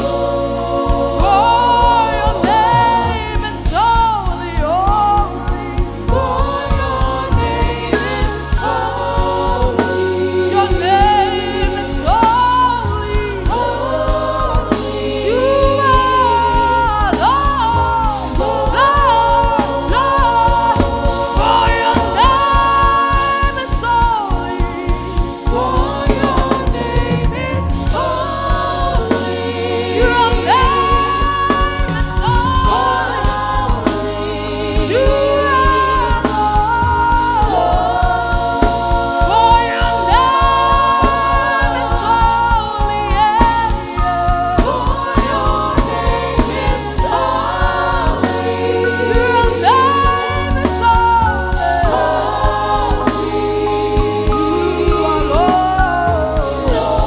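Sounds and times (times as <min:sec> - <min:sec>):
band playing: 0:00.0 - 0:57.0
bass notes: 0:00.0 - 0:57.0
choir singing: 0:00.0 - 0:57.0
drum beat: 0:00.0 - 0:57.0.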